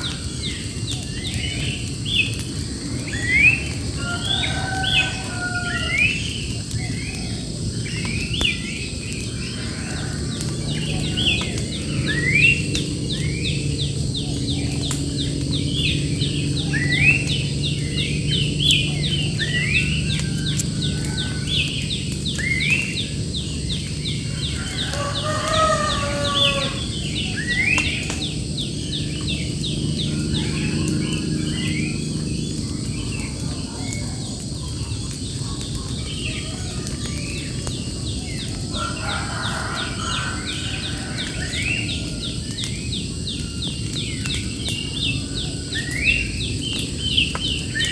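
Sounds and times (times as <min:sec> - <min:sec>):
birds singing: 0:00.0 - 0:47.9.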